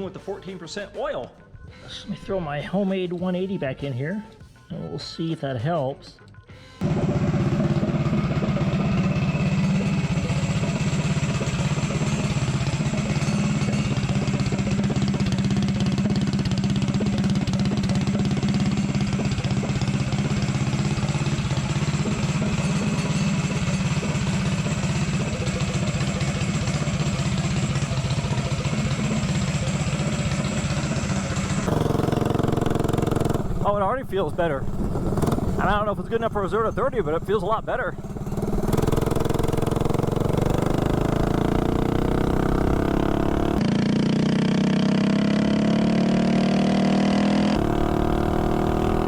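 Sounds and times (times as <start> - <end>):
mini bike engine running: 6.8 - 49.0.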